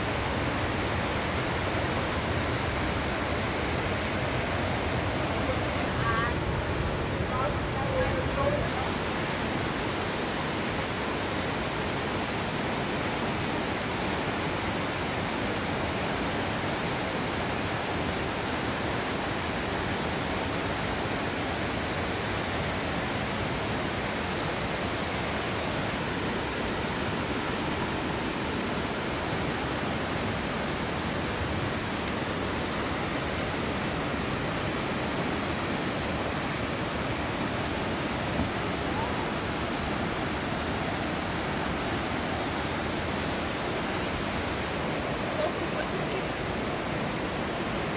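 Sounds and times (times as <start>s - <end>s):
river rushing through a gorge: 0.0s - 47.9s.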